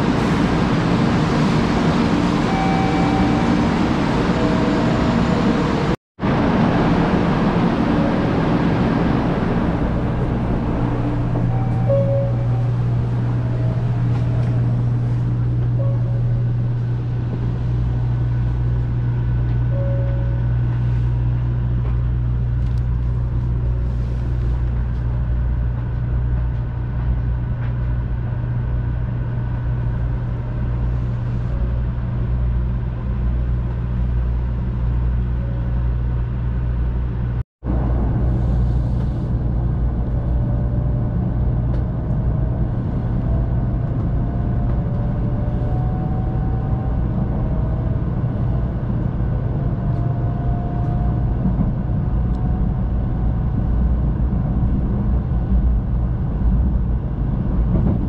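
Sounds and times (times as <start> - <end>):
deeper hum: 0.0 - 58.0
low hum inside train car: 0.0 - 58.0.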